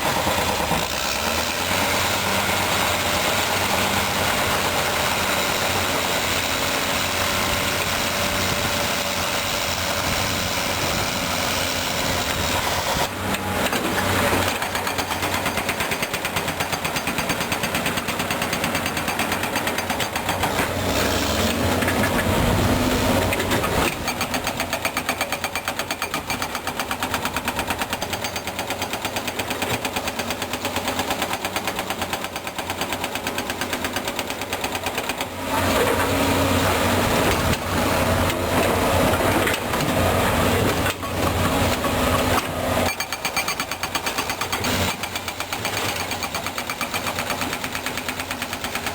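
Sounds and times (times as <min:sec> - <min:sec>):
bulldozer diesel engine clatter: 0:00.0 - 0:48.9.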